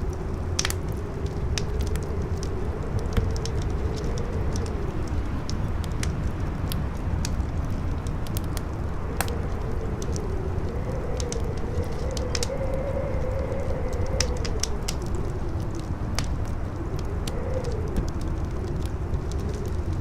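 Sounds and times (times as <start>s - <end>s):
campfire crackling: 0.0s - 20.0s
wind howling: 0.0s - 20.0s.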